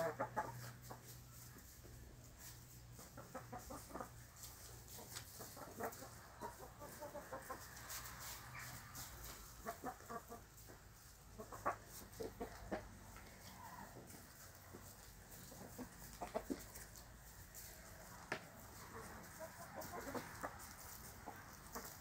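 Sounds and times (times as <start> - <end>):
chickens clucking softly: 0.0 - 22.0.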